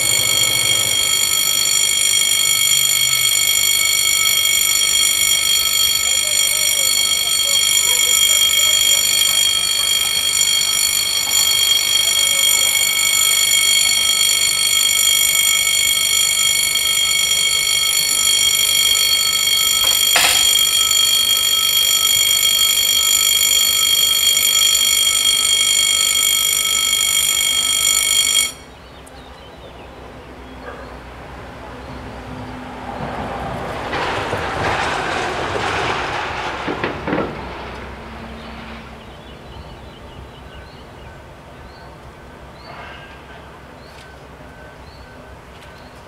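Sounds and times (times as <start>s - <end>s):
level crossing warning bells: 0.0s - 46.0s.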